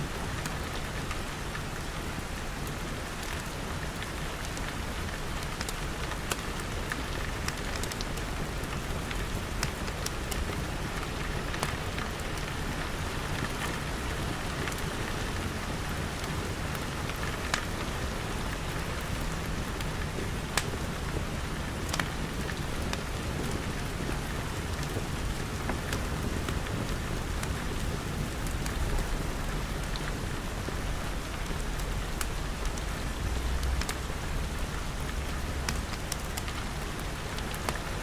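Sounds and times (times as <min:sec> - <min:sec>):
rain pattering on glass: 0:00.2 - 0:38.0.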